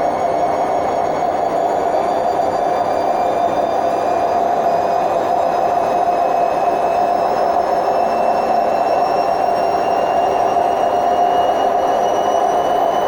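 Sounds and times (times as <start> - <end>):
washing machine spin roar: 0.0 - 13.0.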